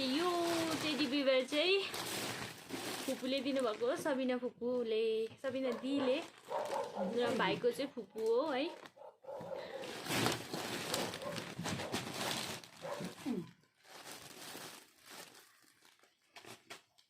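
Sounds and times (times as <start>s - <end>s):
wrapping paper crinkling: 0.0s - 4.3s, 5.7s - 17.0s.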